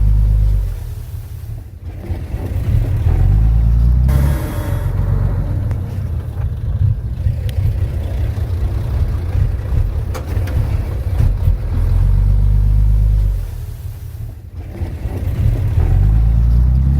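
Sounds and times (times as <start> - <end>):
heavy machinery rumbling: 0.0 - 16.9.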